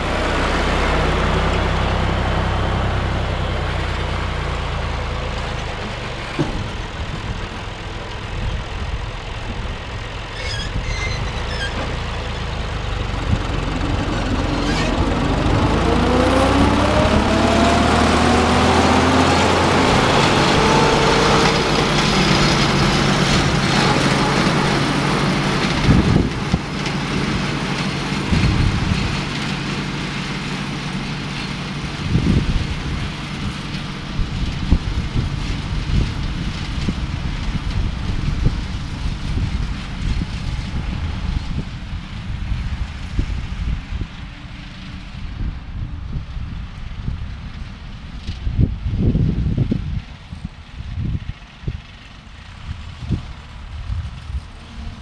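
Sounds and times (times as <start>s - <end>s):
tractor diesel engine mowing: 0.0s - 55.0s.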